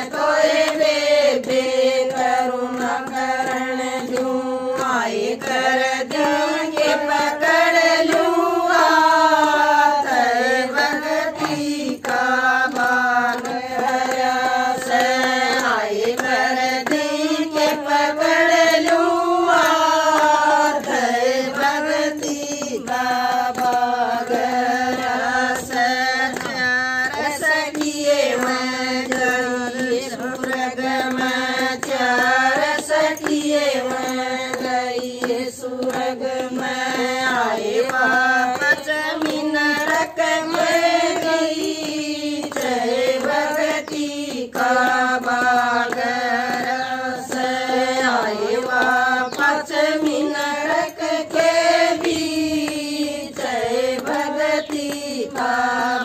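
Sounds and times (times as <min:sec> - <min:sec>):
hand claps: 0:00.0 - 0:56.0
women singing in unison: 0:00.0 - 0:56.0.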